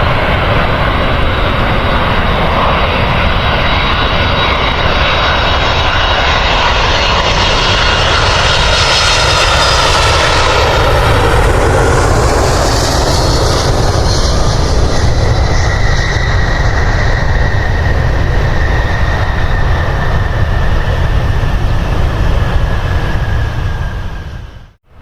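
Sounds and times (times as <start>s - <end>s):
high whine dropping in pitch: 0.0s - 25.0s
jet engines roaring: 0.0s - 25.0s.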